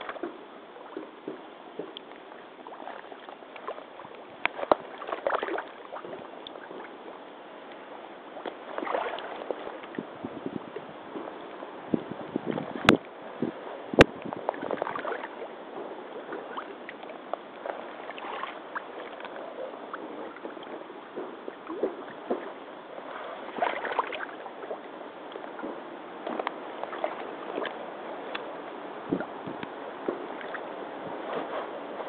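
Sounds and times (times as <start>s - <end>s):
boots sloshing through water: 0.0s - 7.2s, 8.3s - 10.3s, 14.0s - 28.5s, 29.1s - 32.0s.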